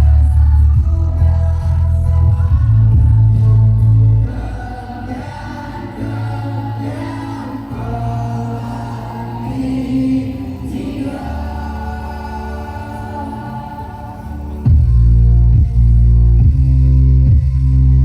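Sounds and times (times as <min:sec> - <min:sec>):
choir-like singing over heavy bass: 0:00.0 - 0:18.0.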